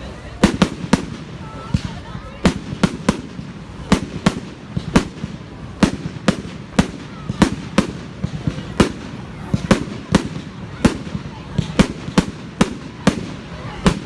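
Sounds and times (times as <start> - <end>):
fireworks banging: 0.0 - 14.0.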